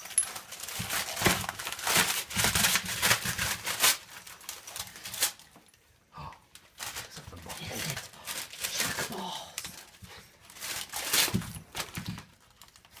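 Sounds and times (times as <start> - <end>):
wrapping paper crinkling and tearing: 0.0 - 5.6, 6.5 - 13.0.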